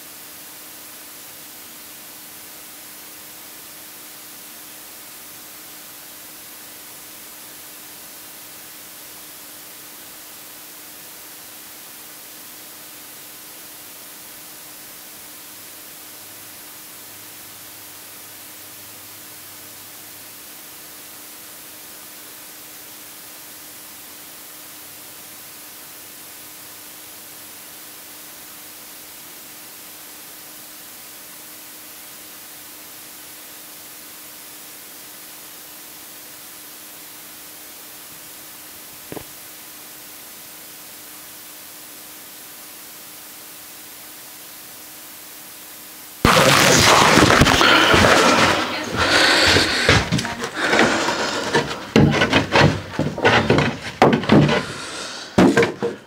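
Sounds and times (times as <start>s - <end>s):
faint steady hum: 0.0s - 56.0s
steady static hiss: 0.0s - 56.0s.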